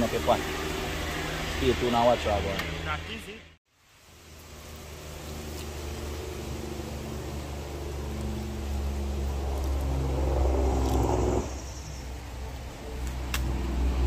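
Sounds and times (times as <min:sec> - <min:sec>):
vehicle engine passing by: 0:00.0 - 0:03.2, 0:04.2 - 0:14.0.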